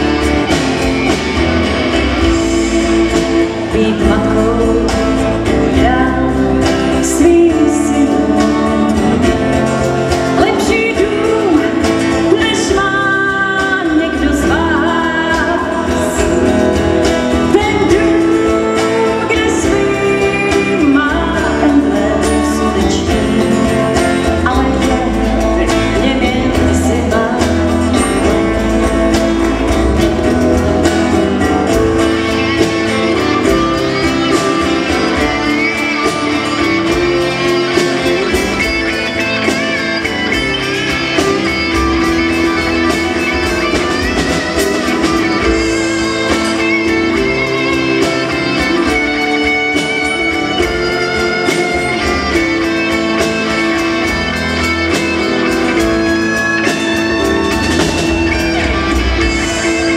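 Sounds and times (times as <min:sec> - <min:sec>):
country band playing: 0:00.0 - 0:59.9
woman singing: 0:02.0 - 0:59.9.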